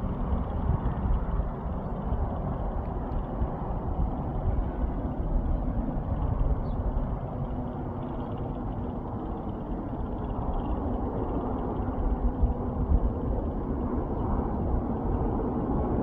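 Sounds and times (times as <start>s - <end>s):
faint steady hum: 0.0s - 16.0s
low outdoor rumble: 0.0s - 16.0s.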